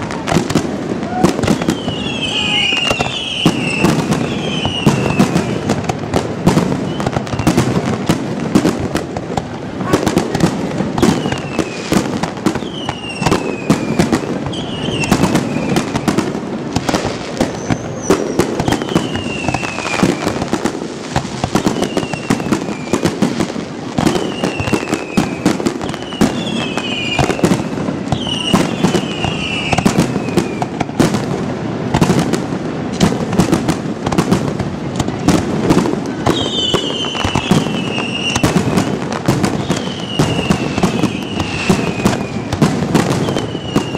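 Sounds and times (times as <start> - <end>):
falling firework whistles: 0.0 - 9.0, 9.8 - 31.2, 35.0 - 43.9
firework shells bursting: 0.0 - 43.9.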